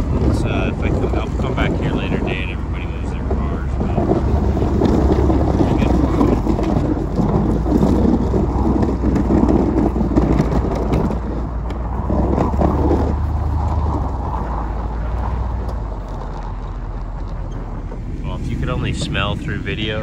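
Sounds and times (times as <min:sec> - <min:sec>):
plow blade scraping snow: 0:00.0 - 0:20.0
truck engine running under load: 0:00.0 - 0:20.0.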